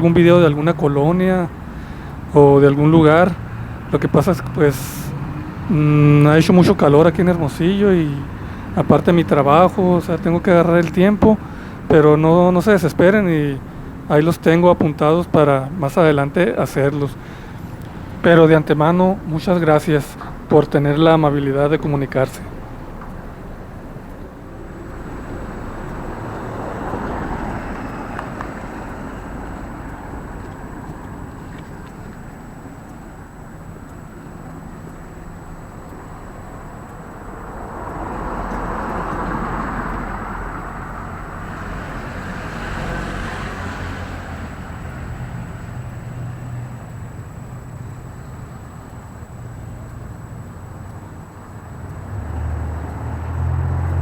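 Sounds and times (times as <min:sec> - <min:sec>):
cars passing: 0:00.0 - 0:54.0
low hum of engines: 0:00.0 - 0:54.0.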